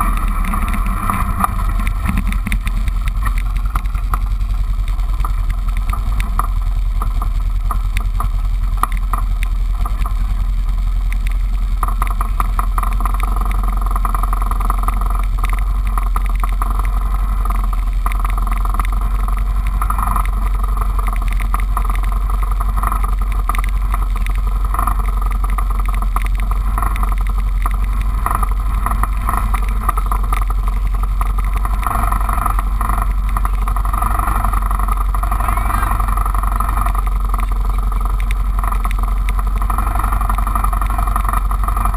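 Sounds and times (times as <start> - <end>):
four-wheeler engine idling: 0.0 - 41.9.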